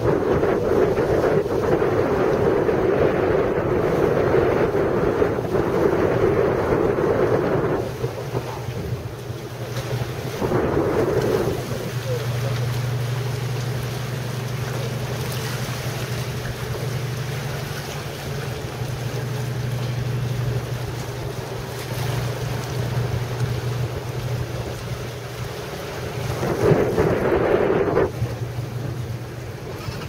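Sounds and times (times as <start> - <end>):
boat engine droning: 0.0 - 30.0
water: 0.0 - 30.0
wind on microphone: 0.0 - 30.0.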